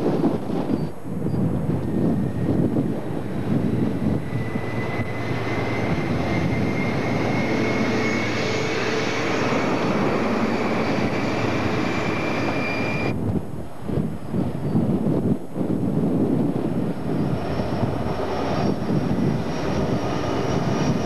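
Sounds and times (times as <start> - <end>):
diesel engine high-pitched whine: 0.0 - 21.0.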